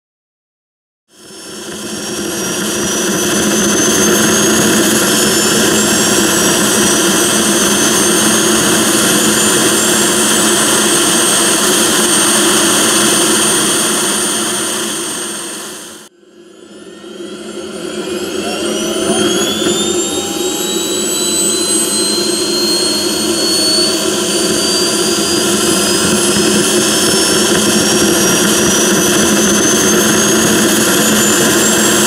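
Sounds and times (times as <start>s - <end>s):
model jet turbine engine: 1.1s - 32.0s.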